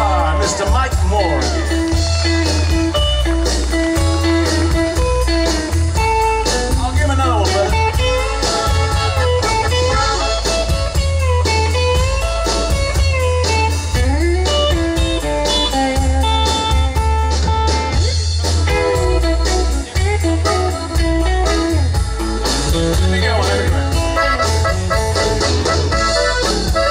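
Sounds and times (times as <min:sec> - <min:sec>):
electric guitar solo: 0:00.0 - 0:06.8, 0:07.4 - 0:26.9
bass and drums: 0:00.0 - 0:26.9.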